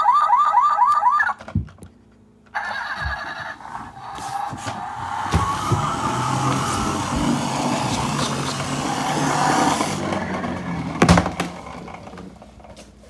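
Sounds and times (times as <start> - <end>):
toy truck engine sound effect: 0.0 - 1.4, 2.5 - 12.2.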